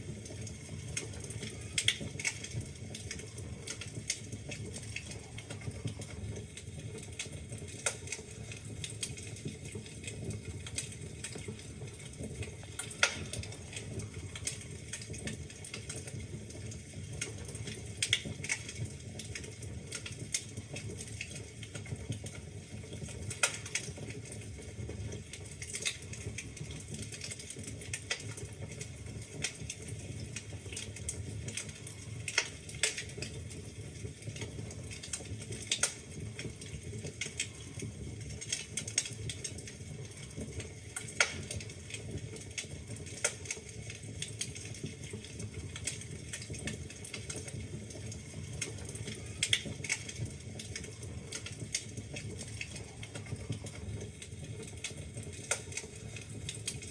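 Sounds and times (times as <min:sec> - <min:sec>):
burning logs cracking: 0:00.0 - 0:56.9
fire crackling and popping: 0:00.0 - 0:56.9
fire flames rumbling: 0:00.0 - 0:56.9.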